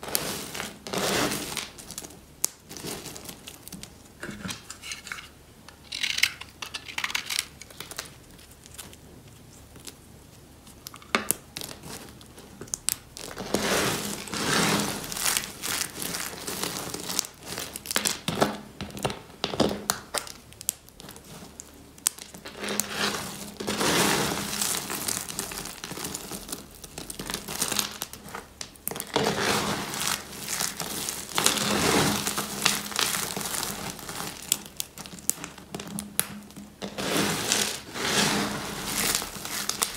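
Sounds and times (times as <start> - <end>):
hands crushing dry soap flakes: 5.8 - 10.0, 10.6 - 39.9.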